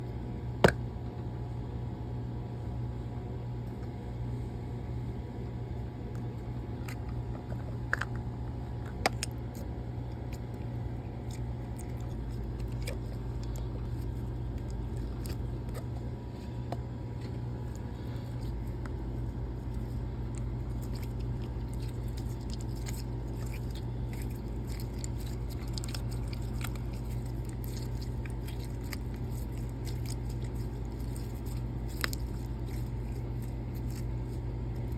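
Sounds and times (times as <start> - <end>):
steady low hum: 0.0 - 34.9
slime toy squishing: 6.9 - 34.9.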